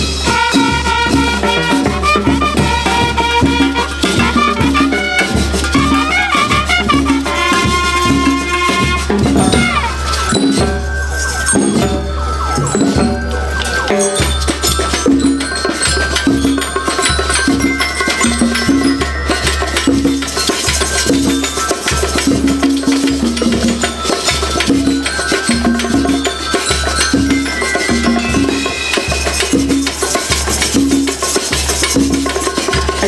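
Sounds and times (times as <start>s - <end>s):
band melody of held notes: 0.0s - 33.0s
bell lyres ringing: 0.0s - 33.0s
snare and bass drums: 0.0s - 33.0s.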